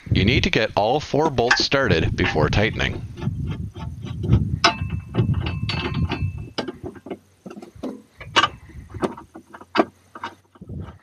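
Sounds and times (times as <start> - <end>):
bolts clinking on steel: 1.1 - 11.0.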